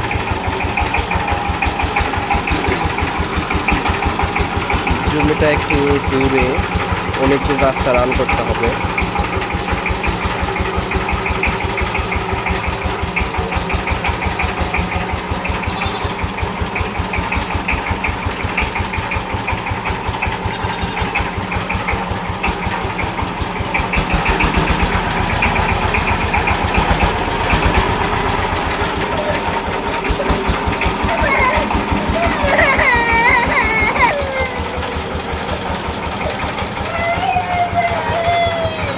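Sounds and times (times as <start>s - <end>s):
diesel tiller engine running: 0.0s - 38.9s.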